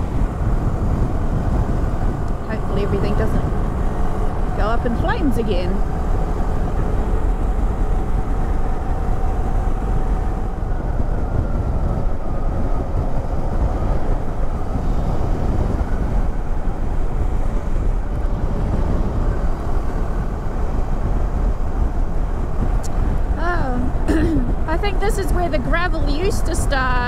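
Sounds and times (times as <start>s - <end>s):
wind rush over microphone: 0.0s - 27.0s.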